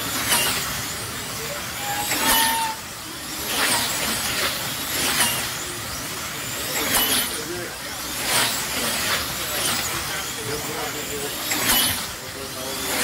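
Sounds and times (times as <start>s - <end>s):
slot cars electric motor whine: 0.0s - 13.0s.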